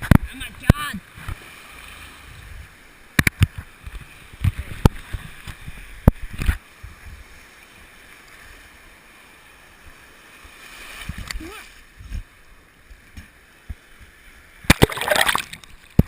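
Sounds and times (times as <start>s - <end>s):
muffled water splashing and sloshing: 0.0s - 16.0s
low wash of water: 1.0s - 16.0s.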